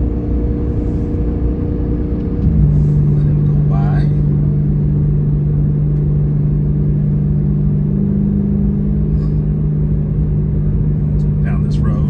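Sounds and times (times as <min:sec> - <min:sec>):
car engine cruising drone: 0:00.0 - 0:12.0.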